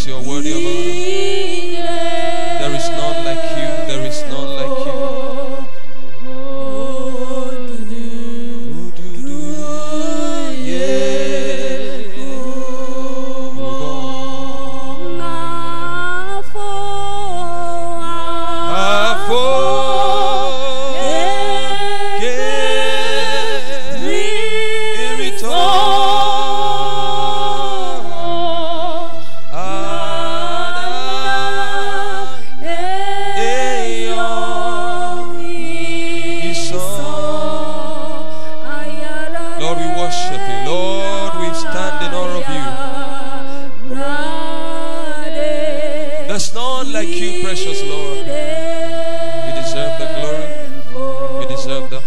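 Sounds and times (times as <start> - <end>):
man singing worship song: 0.0 - 5.7, 7.1 - 15.4, 18.5 - 44.1, 46.2 - 52.0.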